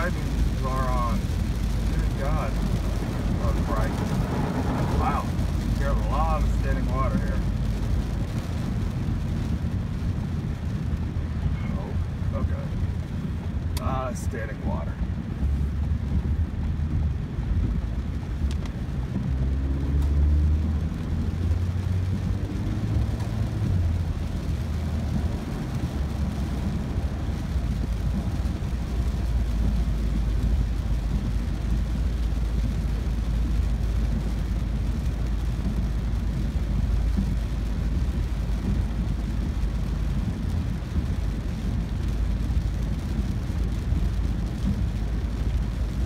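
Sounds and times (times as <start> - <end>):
car road and engine rumble: 0.0 - 46.0
rain and tyre spray hiss: 0.0 - 46.0.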